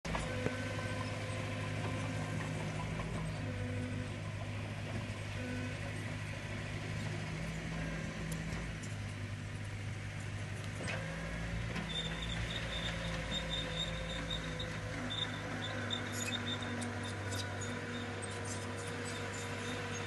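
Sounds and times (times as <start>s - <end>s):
heavy diesel machinery running: 0.0s - 20.0s.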